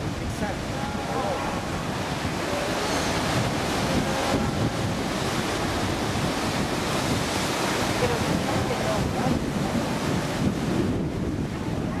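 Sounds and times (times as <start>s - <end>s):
surf washing over rocks: 0.0s - 12.0s
wind buffeting microphone: 0.0s - 12.0s.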